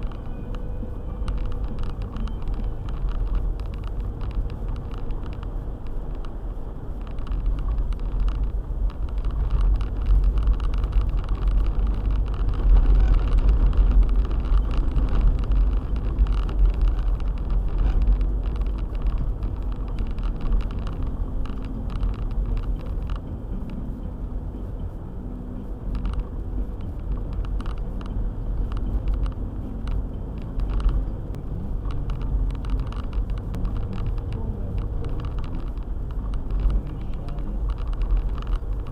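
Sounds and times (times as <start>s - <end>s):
car engine and road rumble: 0.0s - 38.9s
light ticks: 0.0s - 38.9s.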